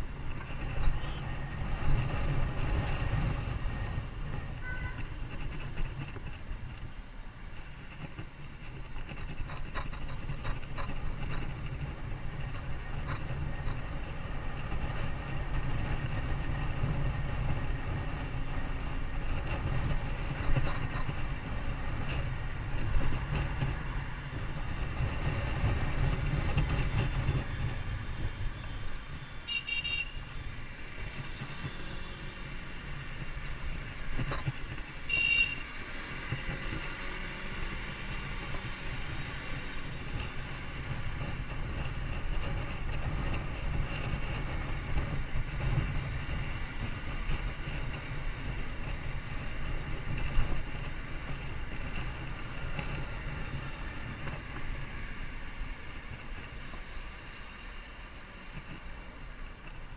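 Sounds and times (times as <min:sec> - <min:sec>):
moving vehicle rumble: 0:00.0 - 0:59.9.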